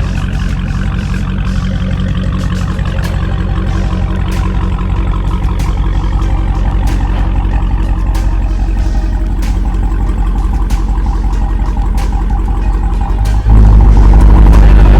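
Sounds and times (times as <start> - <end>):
car engine idling with deep rumble: 0.0 - 14.9.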